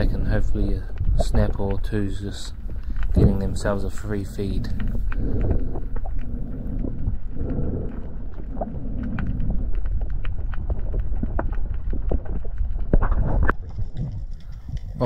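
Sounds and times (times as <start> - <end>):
muffled underwater rumble: 0.0 - 15.0
sharp clicks and ticks: 0.0 - 15.0.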